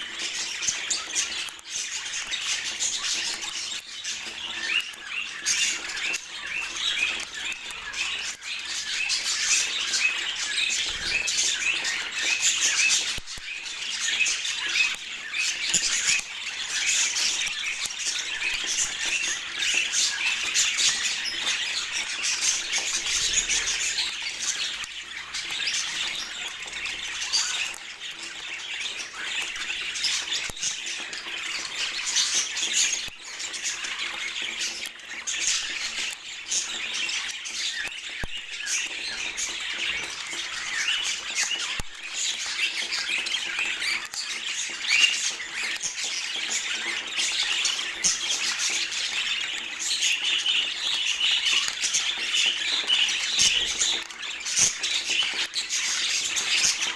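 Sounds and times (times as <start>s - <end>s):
budgerigars chattering and warbling: 0.0s - 56.9s.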